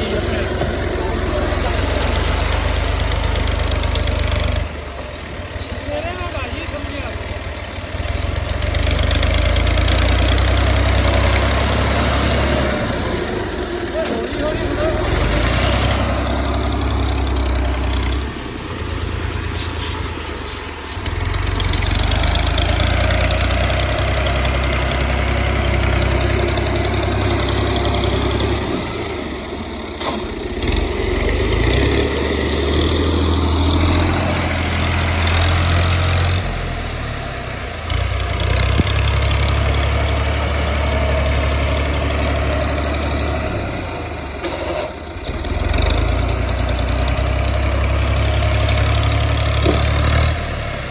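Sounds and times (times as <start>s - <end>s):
tractor diesel engine running hard: 0.0s - 50.9s.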